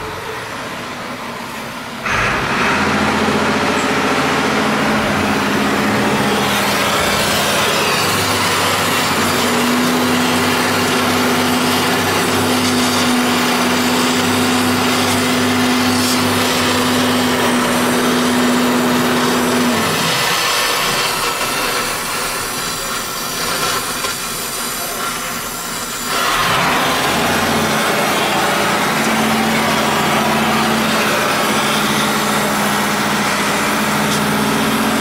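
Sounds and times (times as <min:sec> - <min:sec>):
steady motor hum: 0:02.0 - 0:35.0
welding torch hissing: 0:04.7 - 0:35.0.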